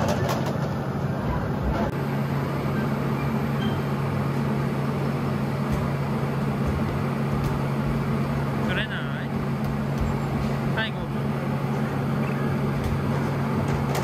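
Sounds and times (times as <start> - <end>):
air blower droning: 0.6 - 14.0.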